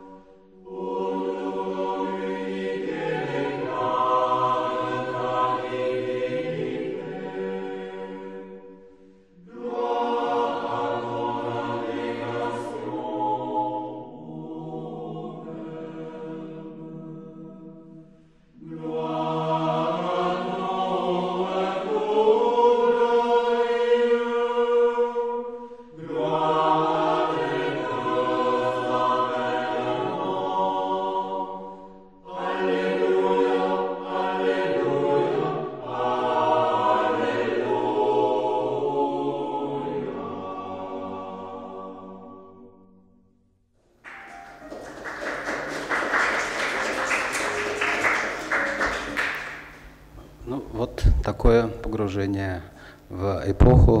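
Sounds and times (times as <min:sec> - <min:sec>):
choir singing a sacred chant: 0:00.0 - 0:42.9, 0:44.1 - 0:52.6.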